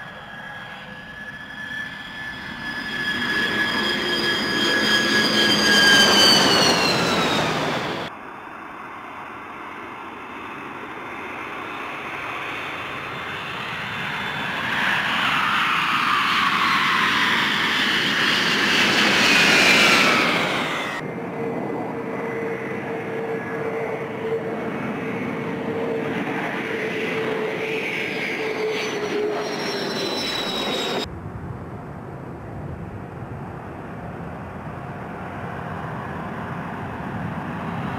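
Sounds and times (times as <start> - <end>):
jet engines running on runway: 0.0 - 37.9
jet engines whining: 0.0 - 37.9.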